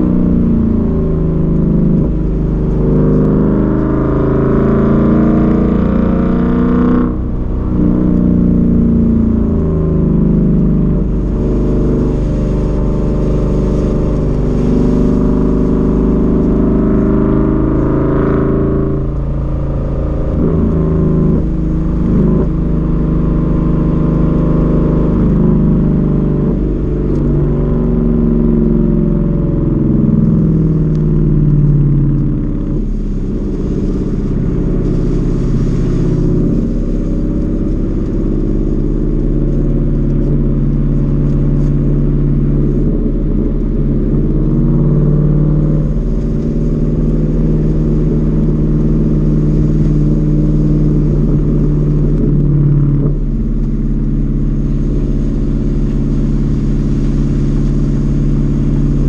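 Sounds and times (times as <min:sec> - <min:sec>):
car engine accelerating in cabin: 0:00.0 - 0:59.0.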